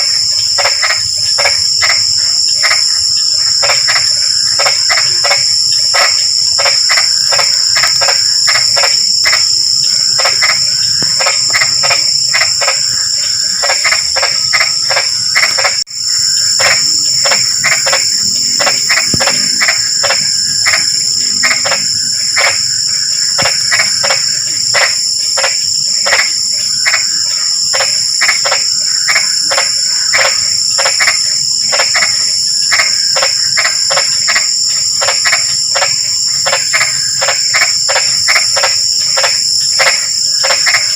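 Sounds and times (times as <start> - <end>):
crickets droning: 0.0 - 40.9
frogs croaking: 0.0 - 40.9.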